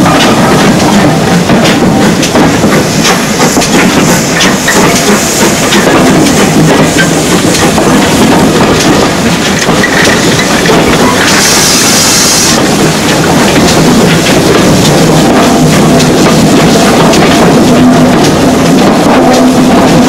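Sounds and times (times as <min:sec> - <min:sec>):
train rolling noise: 0:00.0 - 0:20.0
train wheels clicking over rails: 0:00.0 - 0:20.0
steam hiss: 0:00.3 - 0:20.0.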